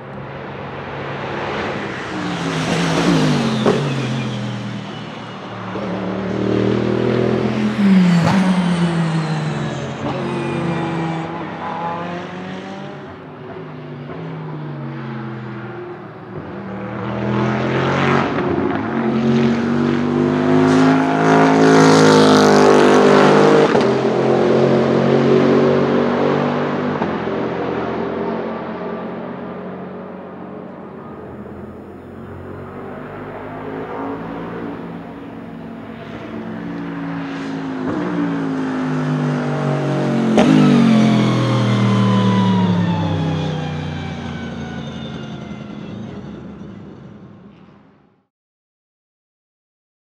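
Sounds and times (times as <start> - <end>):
race car engine passing at speed: 0.1 - 46.5.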